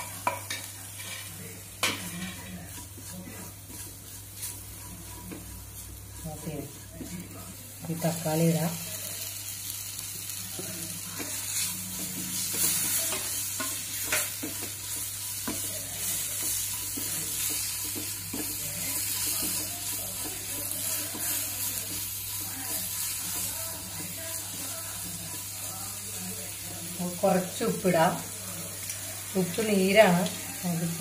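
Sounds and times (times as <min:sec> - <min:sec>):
wooden spatula scraping pan: 0:00.0 - 0:08.8, 0:10.6 - 0:27.9
frying sizzle: 0:00.0 - 0:31.0.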